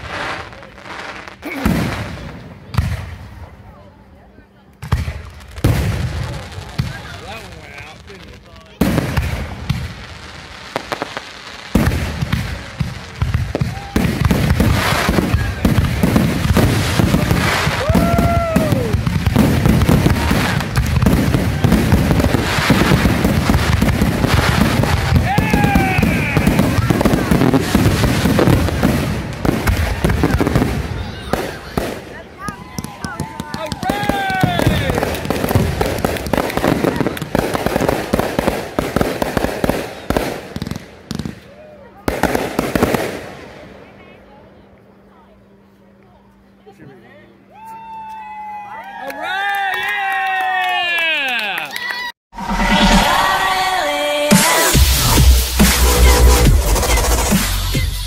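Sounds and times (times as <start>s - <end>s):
fireworks booms and crackling: 0.0s - 3.8s, 4.8s - 44.2s, 52.5s - 58.0s.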